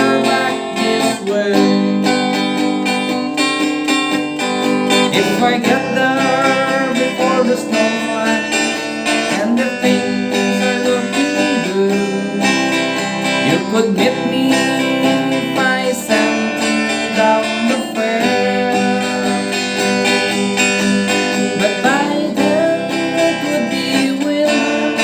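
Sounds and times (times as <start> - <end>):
sliding lead melody: 0.0 - 25.0
strummed acoustic guitar: 0.0 - 25.0.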